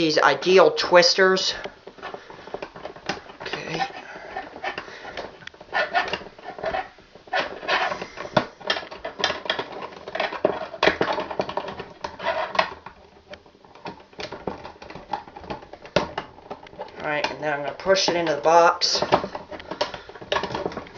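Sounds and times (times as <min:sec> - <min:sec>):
wires clicking and scraping: 0:00.0 - 0:20.9.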